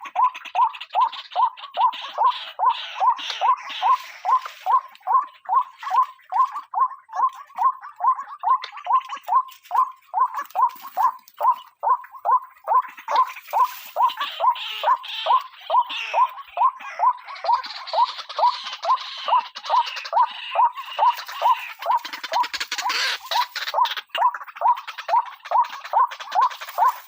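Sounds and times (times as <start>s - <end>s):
rough bird chattering: 0.0s - 27.0s
waterhen calling: 0.0s - 27.0s.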